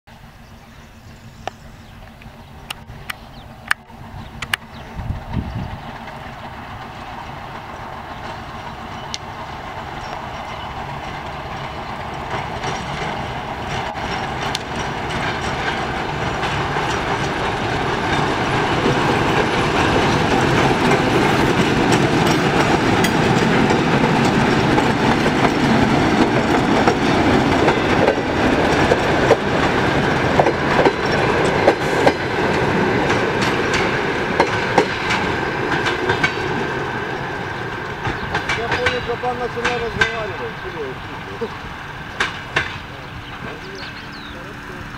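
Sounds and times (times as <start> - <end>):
diesel locomotive engine: 0.1 - 44.9
wheels clacking over rail joints: 2.0 - 44.9.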